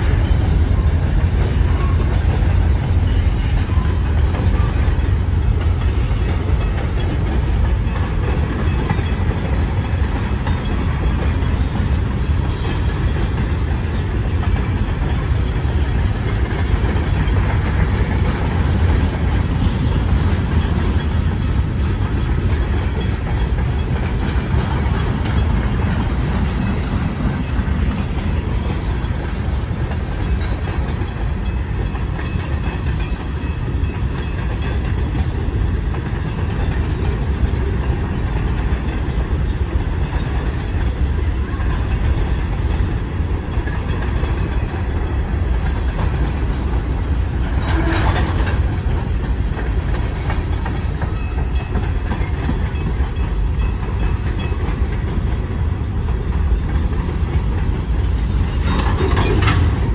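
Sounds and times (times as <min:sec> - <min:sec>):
freight car wheels rumbling on rails: 0:00.0 - 0:59.9.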